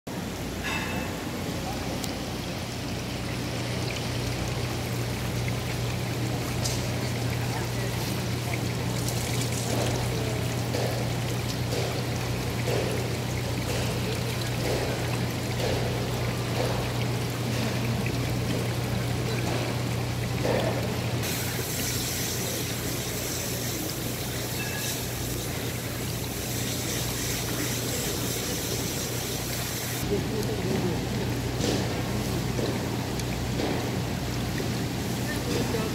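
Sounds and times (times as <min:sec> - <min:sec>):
water pouring and splashing: 0:00.6 - 0:35.9.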